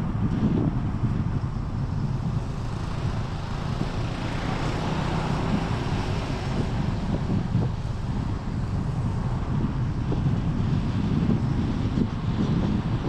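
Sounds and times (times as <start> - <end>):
road traffic noise: 0.0 - 13.0
wind rumble on microphone: 0.0 - 13.0.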